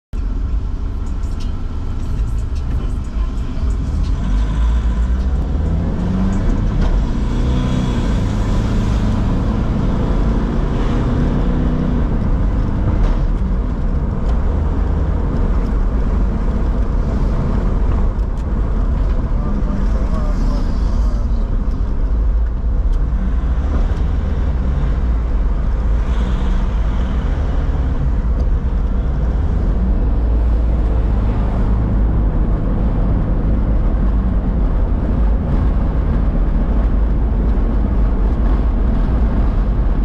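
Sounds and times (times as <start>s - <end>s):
engine and road rumble: 0.1s - 40.0s.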